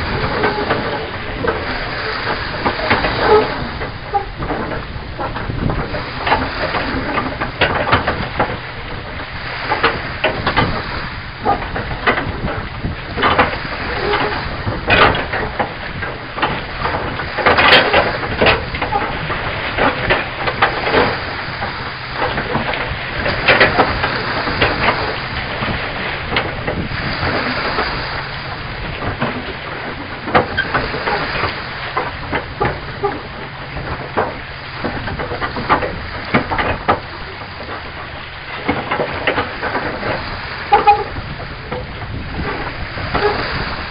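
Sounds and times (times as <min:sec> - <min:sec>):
rushing wash of water: 0:00.0 - 0:43.9
small waves splashing: 0:00.0 - 0:43.9.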